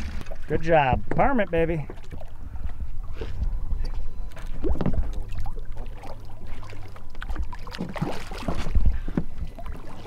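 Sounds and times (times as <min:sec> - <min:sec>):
steady low rumble: 0:00.0 - 0:10.0
water splashing against boat: 0:00.0 - 0:10.0.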